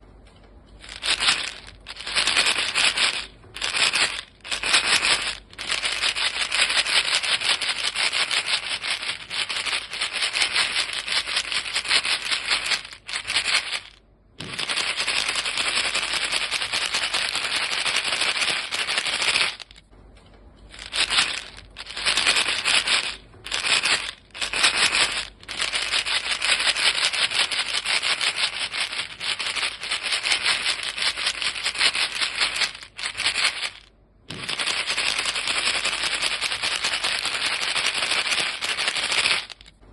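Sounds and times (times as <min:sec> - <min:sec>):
gum pellets rattling in box: 0:00.8 - 0:19.9, 0:20.7 - 0:39.8.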